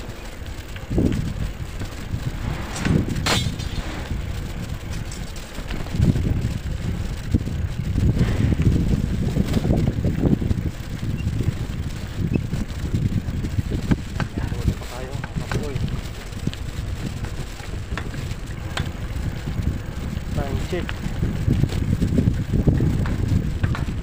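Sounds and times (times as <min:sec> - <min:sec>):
bike rumbling on dirt road: 0:00.0 - 0:24.0
wind buffeting microphone: 0:00.0 - 0:24.0.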